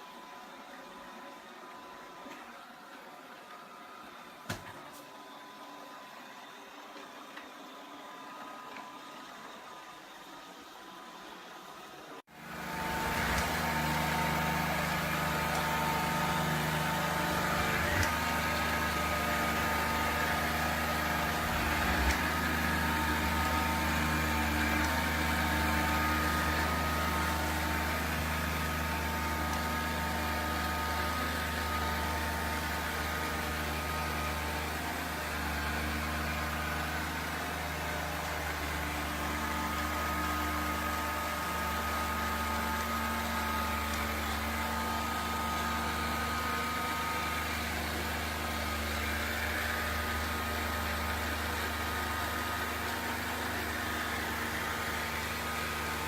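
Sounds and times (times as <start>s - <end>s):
robot vacuum motor hum: 6.5s - 56.0s.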